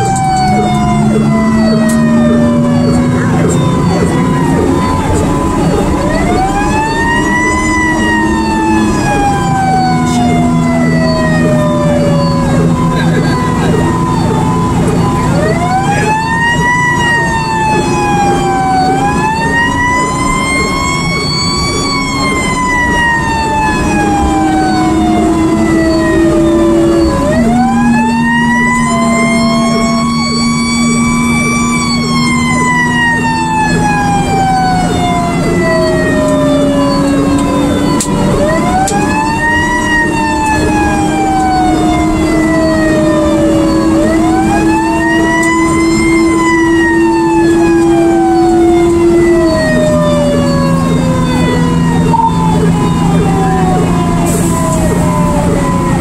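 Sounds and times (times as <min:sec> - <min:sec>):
fire engine siren: 0:00.0 - 0:56.0
truck engine droning: 0:00.0 - 0:56.0.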